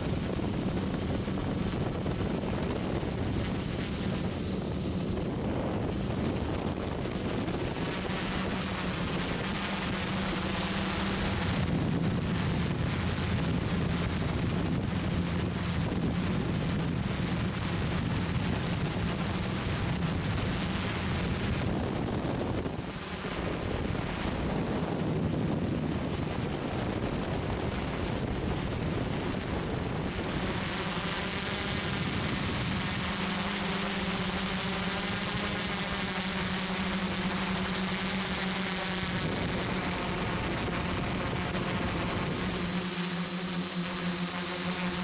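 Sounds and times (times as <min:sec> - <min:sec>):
model aircraft motor droning: 0:00.0 - 0:45.0.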